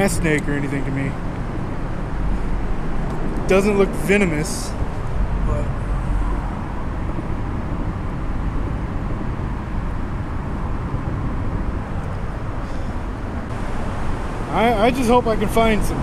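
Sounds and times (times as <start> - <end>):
traffic rumble overhead: 0.0 - 16.0.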